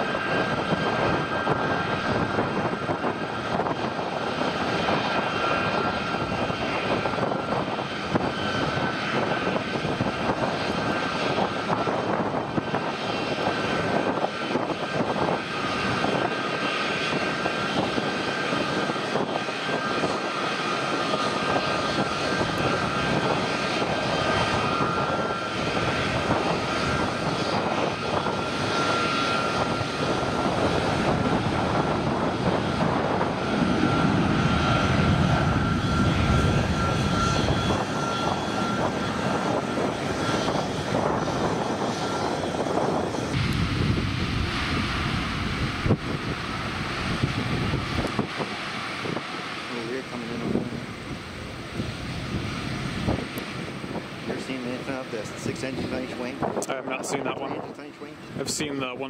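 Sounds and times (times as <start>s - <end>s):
jet engine rush: 0.0s - 59.0s
jet engines whining: 0.0s - 59.0s.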